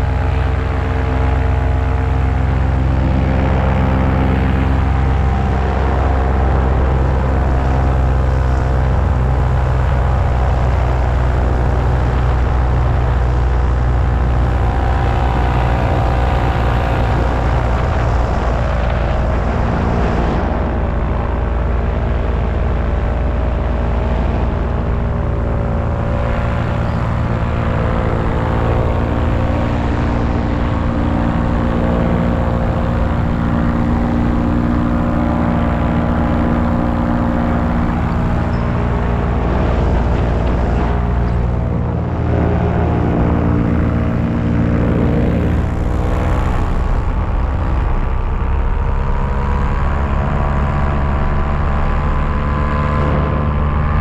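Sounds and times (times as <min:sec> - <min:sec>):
paramotor engine droning: 0:00.0 - 0:54.0.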